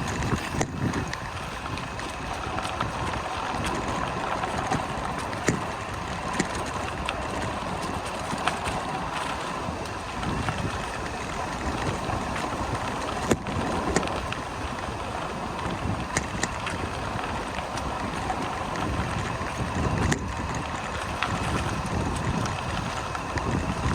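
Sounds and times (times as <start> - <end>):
bicycle tyres rolling on dirt: 0.0 - 23.9
sharp clicks and knocks from bumps: 0.0 - 23.9
wind noise on microphone: 0.0 - 23.9.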